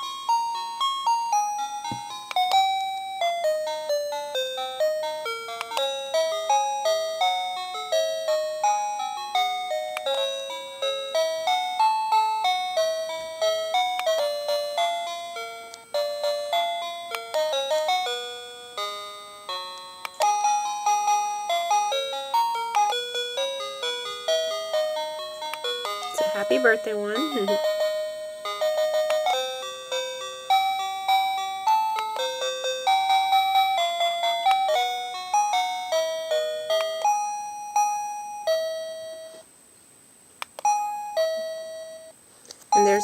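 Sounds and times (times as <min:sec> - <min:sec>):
electronic doorbell chime melody: 0:00.0 - 0:39.5, 0:40.6 - 0:43.0.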